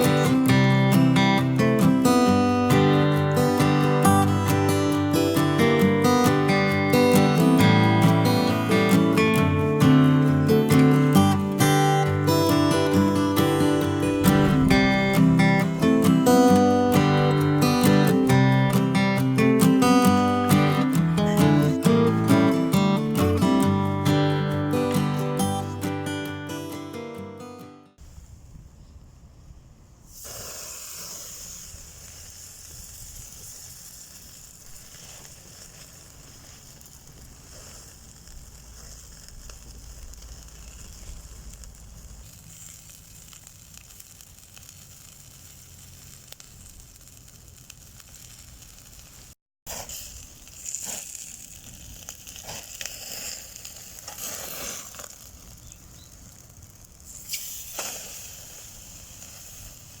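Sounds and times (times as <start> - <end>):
food sizzling on a grill: 0.0 - 25.8, 30.1 - 60.0
coals crackling: 0.0 - 28.4, 29.9 - 60.0.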